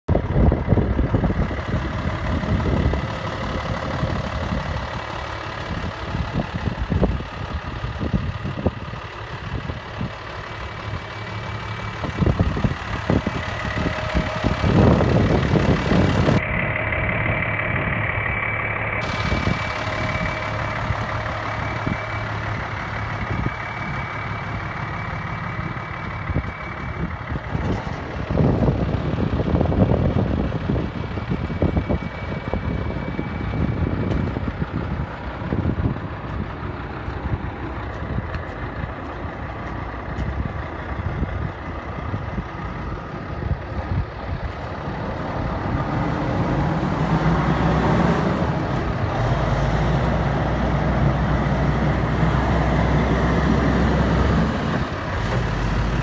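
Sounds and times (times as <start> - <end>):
wind buffeting microphone: 0.1 - 16.4, 25.5 - 56.0
diesel truck engine idling: 0.1 - 56.0.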